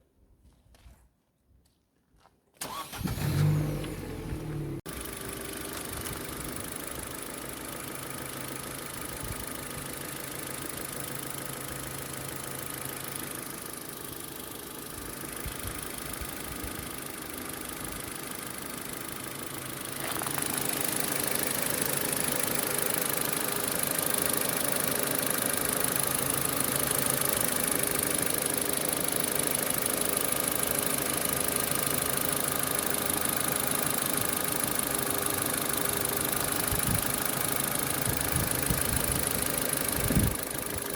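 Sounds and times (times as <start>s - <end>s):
car engine idling: 2.6s - 40.9s.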